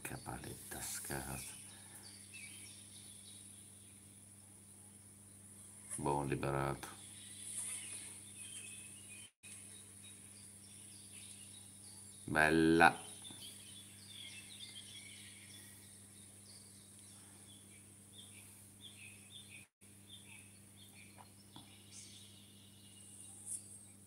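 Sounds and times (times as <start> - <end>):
faint bird chirps: 0.1 - 24.0.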